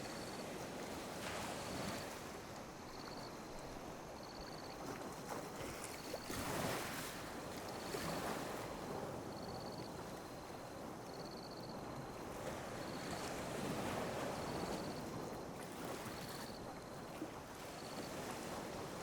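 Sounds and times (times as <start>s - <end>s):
sea waves washing on beach: 0.0s - 19.0s.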